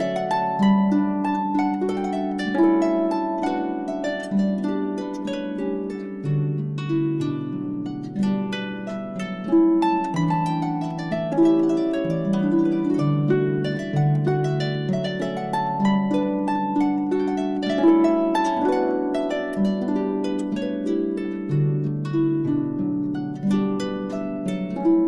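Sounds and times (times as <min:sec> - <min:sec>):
harp music: 0:00.0 - 0:25.0.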